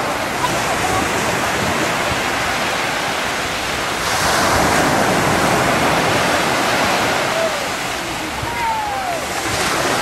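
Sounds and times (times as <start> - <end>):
sea surf washing onto shore: 0.0 - 10.0.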